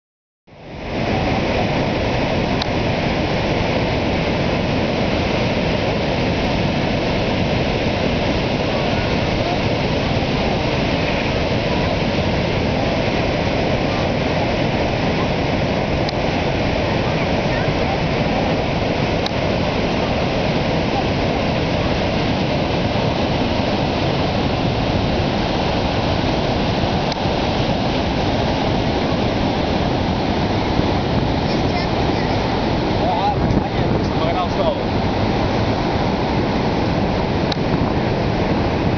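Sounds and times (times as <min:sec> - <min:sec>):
waterfall rushing: 0:00.6 - 0:38.9.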